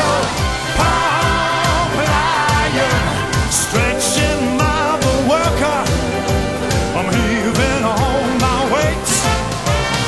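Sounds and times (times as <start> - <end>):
pop song with drum beat: 0.0 - 10.0.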